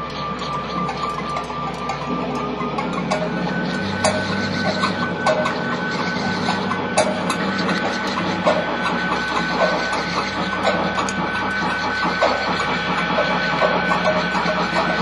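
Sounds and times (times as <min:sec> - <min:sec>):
high whine: 0:00.0 - 0:15.0
low hum: 0:00.0 - 0:15.0
mechanical drone: 0:00.0 - 0:15.0.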